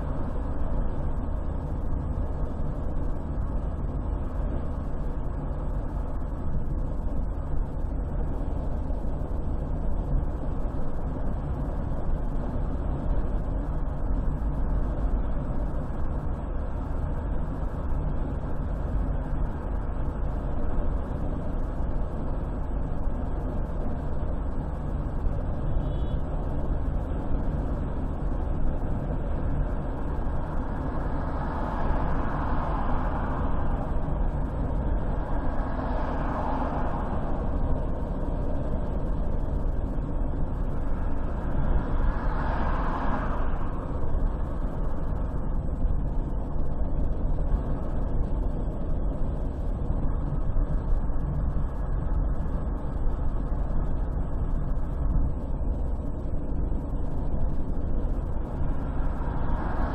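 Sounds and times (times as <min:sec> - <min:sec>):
car driving on highway: 0:00.0 - 0:59.9.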